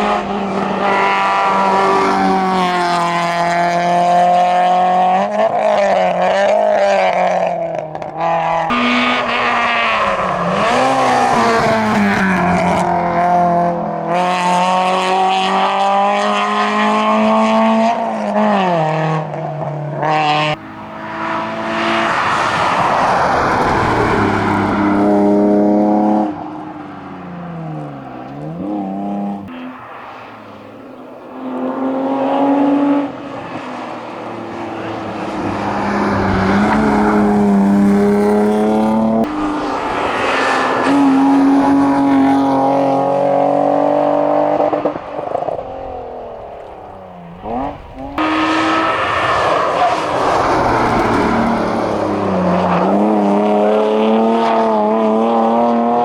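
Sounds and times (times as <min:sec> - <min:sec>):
car passing hard: 0:00.0 - 0:56.0
race car engine at full throttle: 0:00.0 - 0:56.0.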